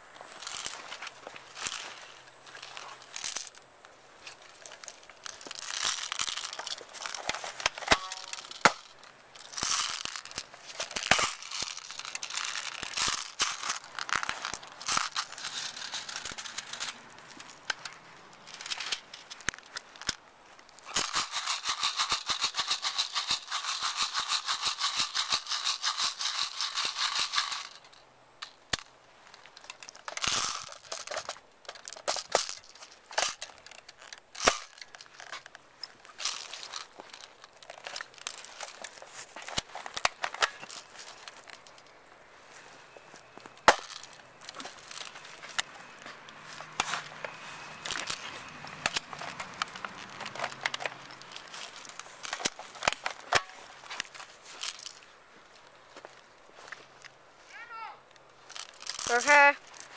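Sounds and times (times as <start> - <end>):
rustling movement: 0.0 - 59.9.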